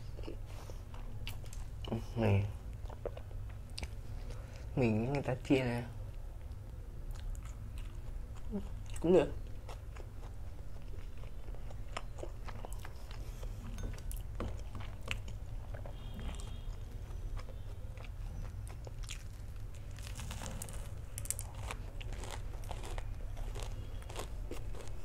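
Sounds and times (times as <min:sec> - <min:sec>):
chewing and crunching food: 0:00.0 - 0:05.3, 0:06.1 - 0:25.0
steady low hum: 0:00.0 - 0:25.0.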